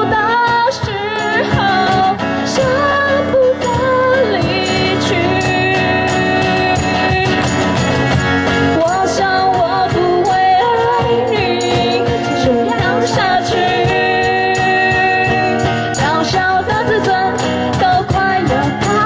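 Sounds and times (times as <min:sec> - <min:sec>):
women singing: 0:00.0 - 0:07.9, 0:08.6 - 0:19.0
cajon beat: 0:00.0 - 0:19.0
strummed acoustic guitar: 0:00.0 - 0:19.0.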